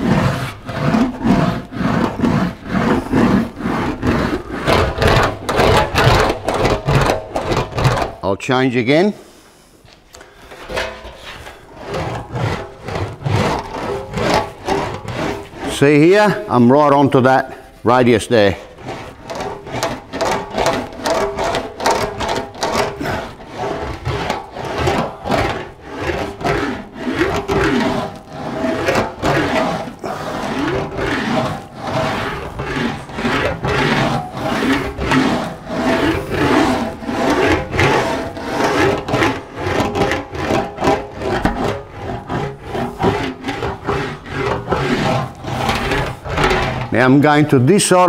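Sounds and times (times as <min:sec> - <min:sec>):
metal panel rumbling rub: 0:00.0 - 0:08.3, 0:10.2 - 0:48.0.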